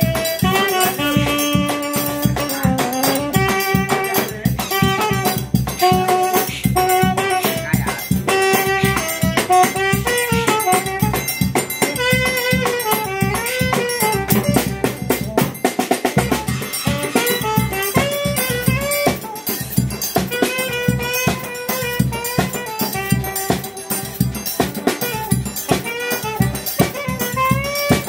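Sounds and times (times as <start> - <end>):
accordion: 0.0 - 28.0
bass drum: 0.0 - 28.0
saxophone melody: 0.0 - 28.0
snare drum and cymbal: 0.0 - 28.0.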